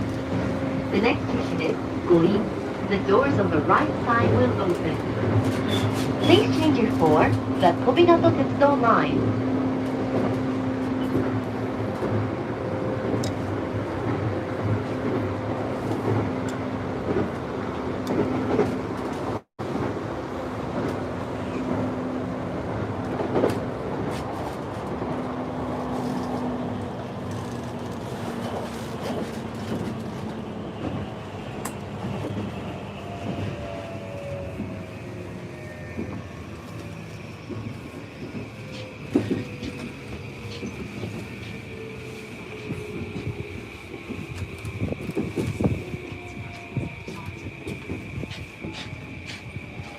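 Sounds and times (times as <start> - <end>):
train wheels on rail: 0.0 - 49.9.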